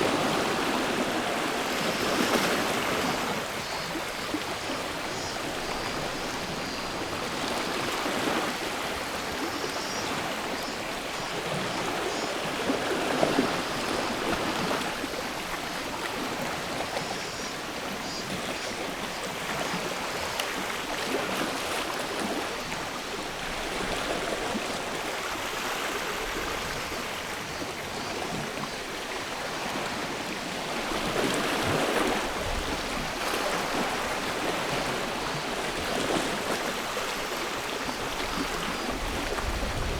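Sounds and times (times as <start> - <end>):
faint cicadas trilling: 0.0 - 39.9
sea waves washing on shore: 0.0 - 39.9.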